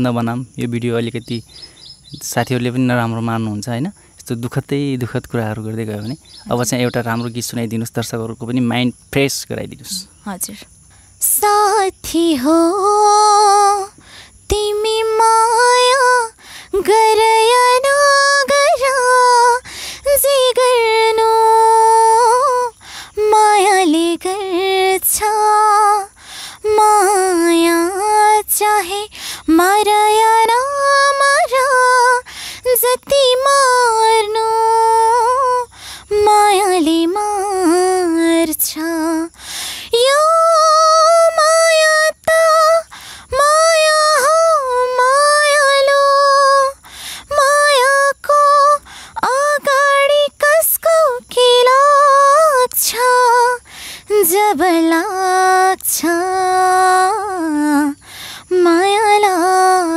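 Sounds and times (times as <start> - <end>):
girl singing unaccompanied: 9.9 - 59.9.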